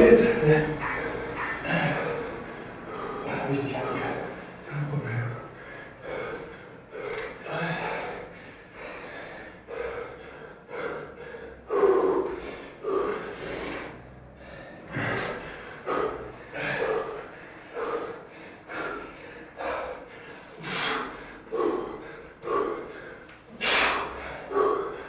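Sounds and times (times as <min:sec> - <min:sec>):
heavy breathing and gasps: 0:04.0 - 0:25.0.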